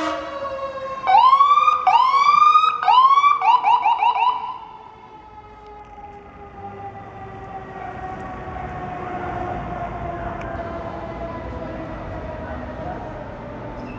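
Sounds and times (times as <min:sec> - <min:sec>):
emergency vehicle siren: 0:00.0 - 0:13.9
engine and road rumble: 0:00.0 - 0:13.9.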